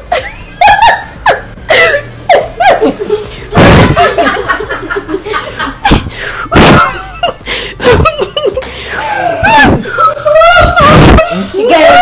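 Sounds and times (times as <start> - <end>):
people chuckling and snickering: 0.0 - 12.0.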